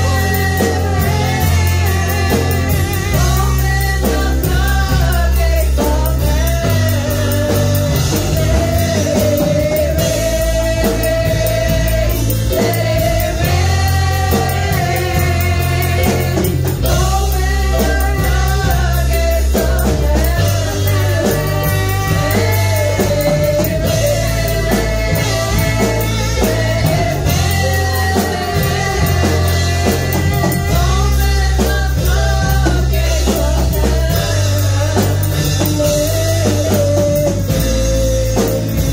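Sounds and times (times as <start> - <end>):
drums: 0.0 - 38.9
electric bass guitar: 0.0 - 38.9
keyboard: 0.0 - 38.9
women singing: 0.0 - 38.9.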